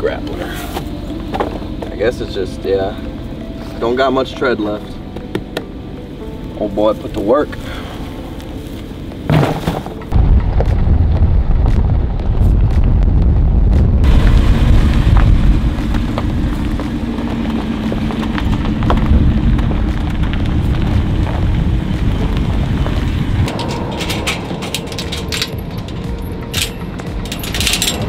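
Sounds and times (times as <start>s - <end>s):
car engine deep rumble: 0.0s - 28.0s.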